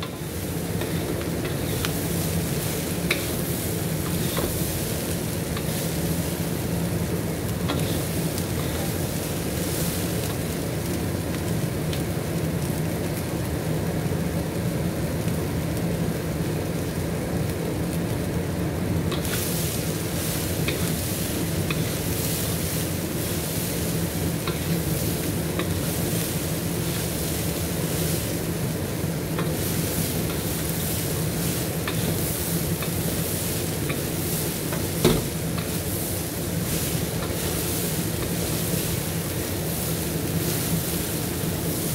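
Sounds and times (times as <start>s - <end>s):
chickpeas sizzling in a wok: 0.0s - 41.9s.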